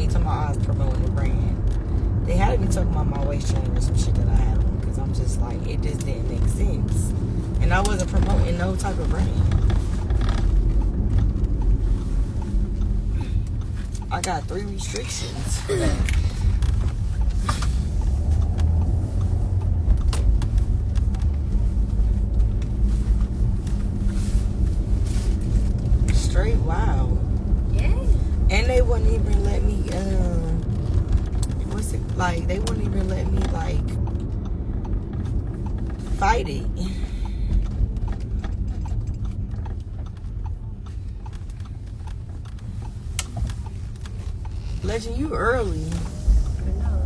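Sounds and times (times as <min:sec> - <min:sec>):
car cabin road and engine rumble: 0:00.0 - 0:47.0
turn signal clicking: 0:00.0 - 0:47.0.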